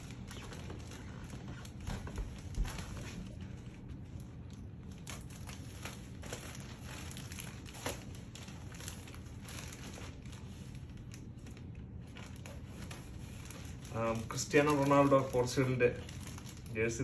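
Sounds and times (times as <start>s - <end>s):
plastic mailer bag crinkling: 0.0s - 17.0s.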